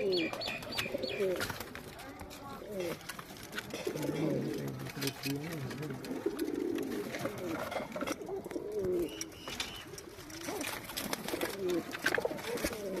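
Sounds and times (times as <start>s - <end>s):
pigeons cooing: 0.0s - 3.0s, 3.6s - 13.0s.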